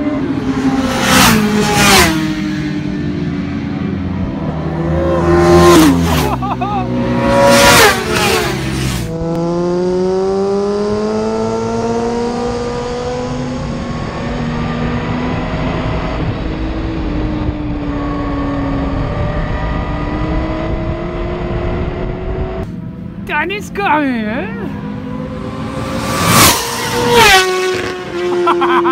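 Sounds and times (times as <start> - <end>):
racing motorcycles passing: 0.0 - 28.9.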